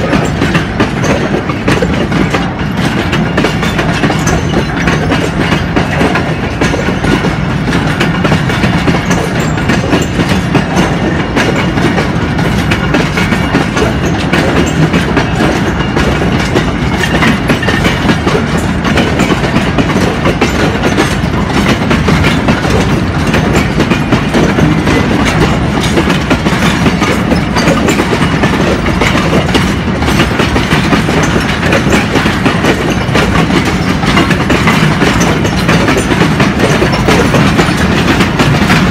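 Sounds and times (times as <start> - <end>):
train wheels clacking over rail joints: 0.0 - 38.9.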